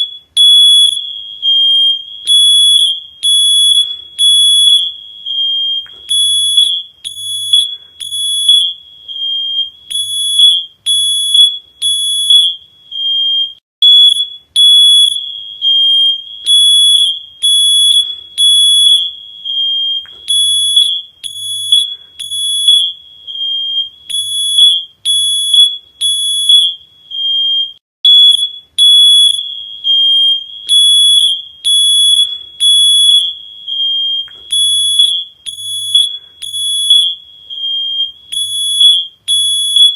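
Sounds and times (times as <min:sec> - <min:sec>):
smoke alarm beeping: 0:00.0 - 0:39.9.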